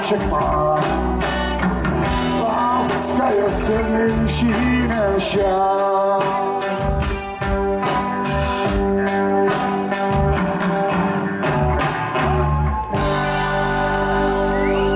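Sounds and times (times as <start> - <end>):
bass guitar: 0.0 - 14.9
drum kit: 0.0 - 14.9
electric guitar: 0.0 - 14.9.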